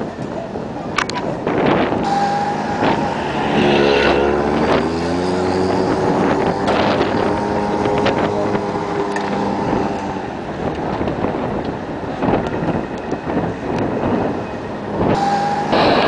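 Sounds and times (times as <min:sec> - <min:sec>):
traffic noise: 0:00.0 - 0:16.0
vehicle engine hum: 0:00.0 - 0:16.0.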